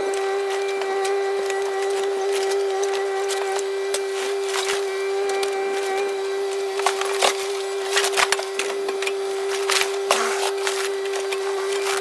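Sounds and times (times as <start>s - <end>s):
excavator engine whining: 0.0s - 12.0s
fiberglass cracking and snapping: 0.0s - 12.0s.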